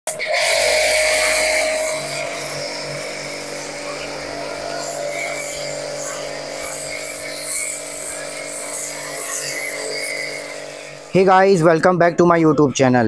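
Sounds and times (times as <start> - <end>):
foam jet hissing: 0.1 - 11.6
pressure washer humming: 0.1 - 11.8.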